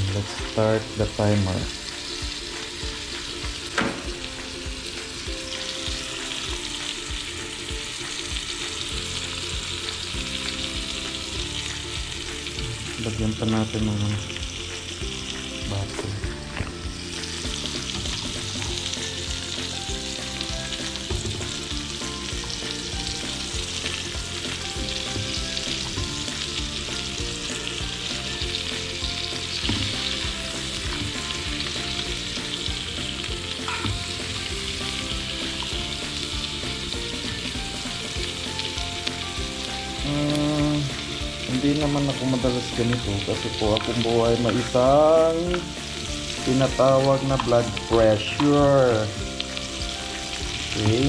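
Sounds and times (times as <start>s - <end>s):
steak sizzling in a pan: 0.0s - 51.0s.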